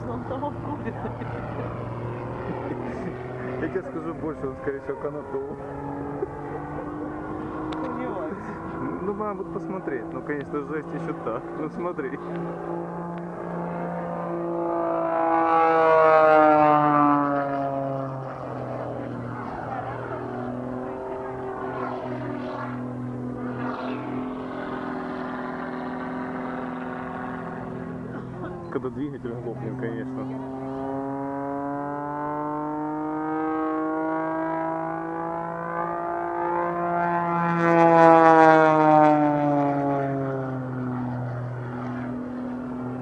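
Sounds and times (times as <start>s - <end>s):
biplane engine and propeller droning: 0.0s - 43.0s.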